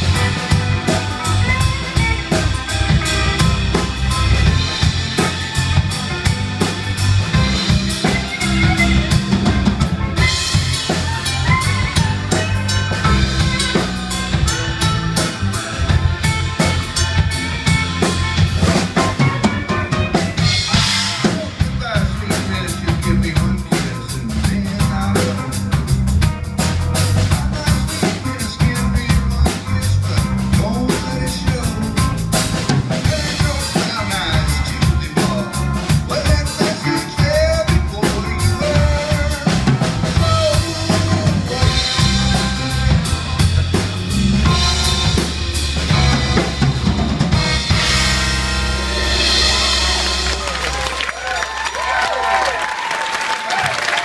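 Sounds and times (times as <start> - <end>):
busy drum kit: 0.0 - 54.0
rock band music: 0.0 - 54.0.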